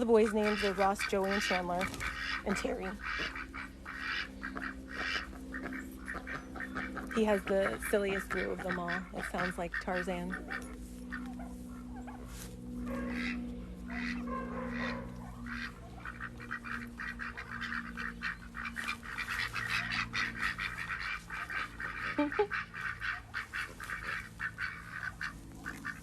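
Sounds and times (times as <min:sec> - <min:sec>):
fowl honking calls: 0:00.0 - 0:26.0
low steady hum: 0:00.0 - 0:26.0.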